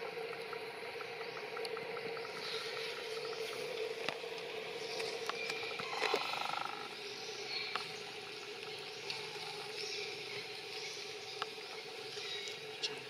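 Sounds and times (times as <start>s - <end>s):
forest insects droning: 0.0s - 13.0s.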